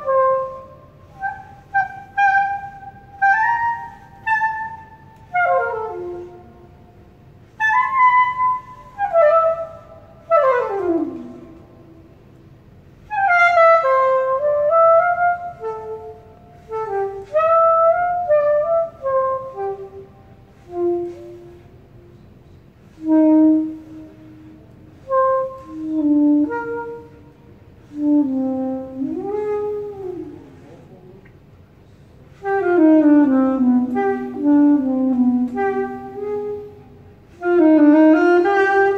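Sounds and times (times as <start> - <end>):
soprano saxophone jazz line: 0.0 - 31.1, 32.3 - 38.9.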